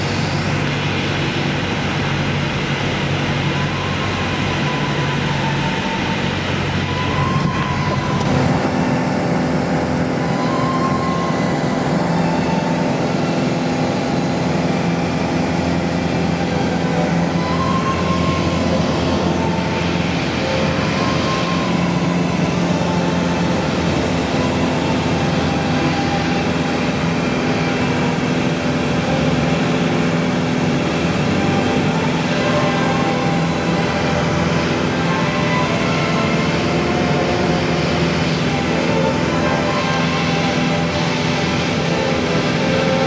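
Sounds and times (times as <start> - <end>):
light aircraft engine and propeller: 0.0 - 43.0.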